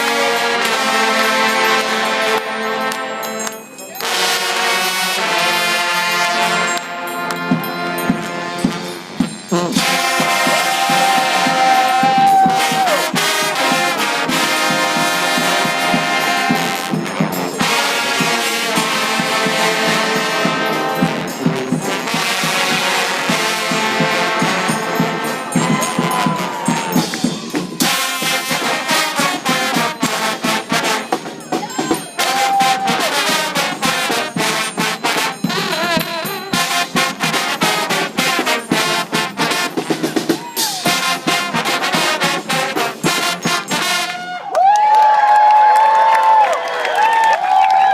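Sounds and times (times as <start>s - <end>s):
trombone choir playing: 0.0s - 44.4s.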